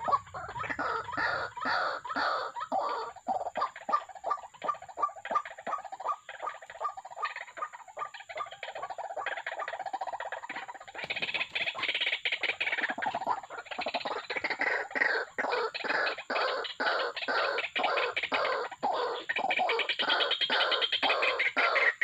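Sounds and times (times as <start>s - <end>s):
waterhens croaking: 0.0s - 22.0s.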